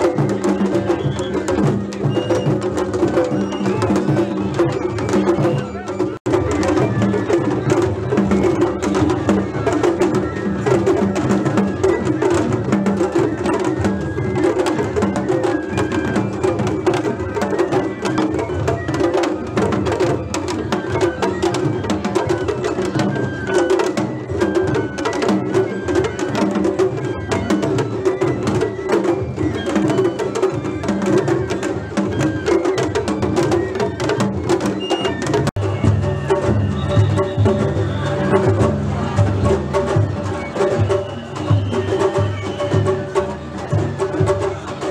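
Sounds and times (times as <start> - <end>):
taiko drums beating: 0.0 - 44.9.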